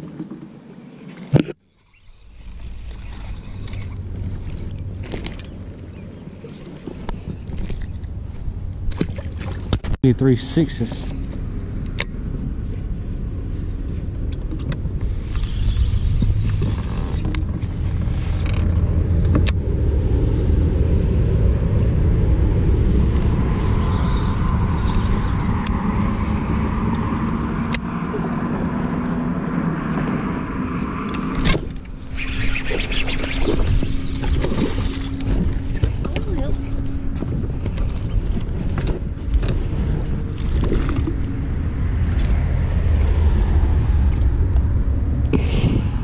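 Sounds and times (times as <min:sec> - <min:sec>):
low rumble: 0:02.0 - 0:46.0.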